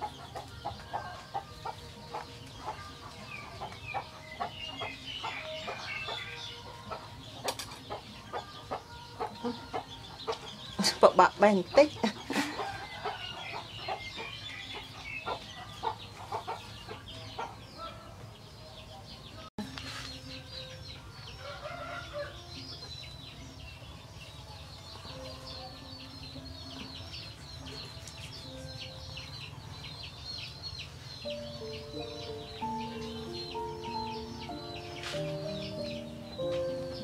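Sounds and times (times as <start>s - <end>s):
chickens clucking: 0.0s - 23.6s, 24.7s - 37.0s.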